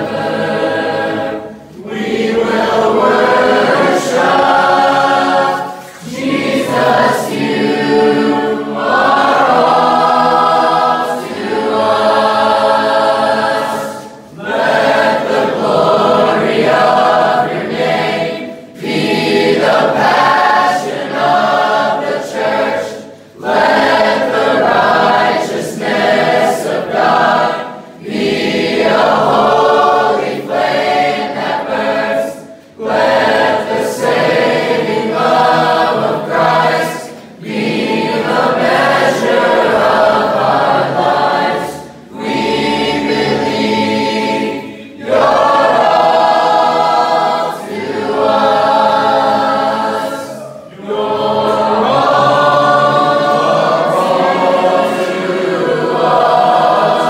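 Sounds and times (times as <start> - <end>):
group singing a worship song: 0.0 - 57.0.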